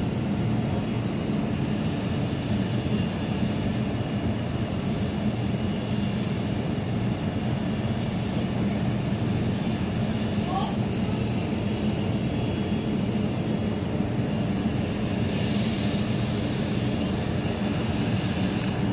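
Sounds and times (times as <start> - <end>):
low mechanical machinery drone: 0.0 - 18.9.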